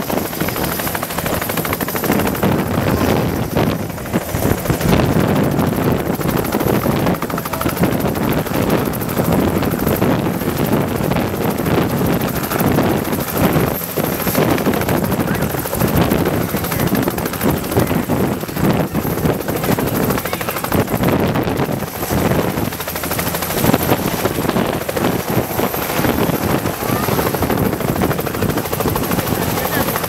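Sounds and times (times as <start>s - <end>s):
helicopter rotor chopping: 0.0s - 30.0s.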